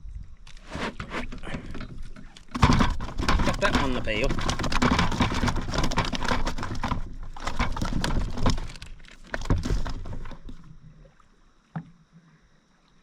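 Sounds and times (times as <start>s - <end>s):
gear knocking in a kayak: 0.5s - 11.1s.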